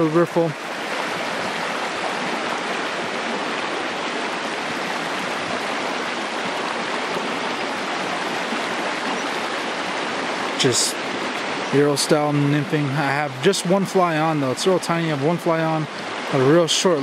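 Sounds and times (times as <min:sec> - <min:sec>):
water running over rocks: 0:00.0 - 0:17.0.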